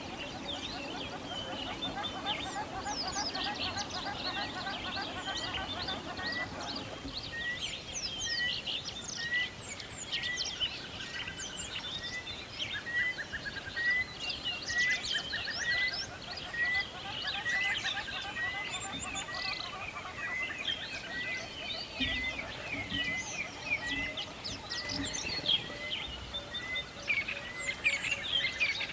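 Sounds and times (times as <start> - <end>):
songbirds chirping and trilling: 0.0 - 28.9.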